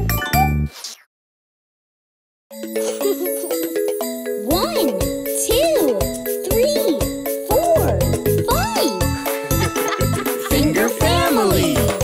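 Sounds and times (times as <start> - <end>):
cheerful cartoon music with chimes: 0.0 - 0.7, 2.5 - 12.0.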